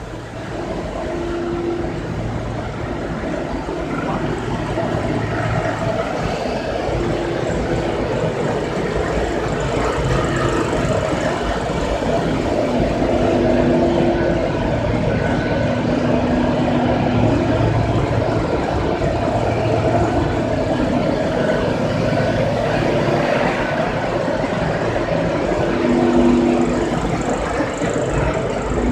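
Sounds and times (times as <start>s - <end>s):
loud steady machinery noise: 0.0s - 28.9s.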